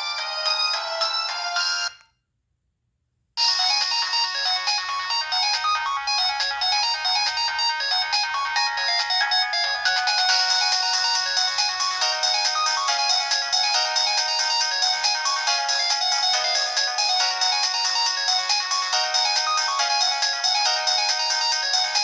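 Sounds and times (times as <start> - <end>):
mobile phone ringtone melody: 0.0 - 2.0, 3.4 - 22.0.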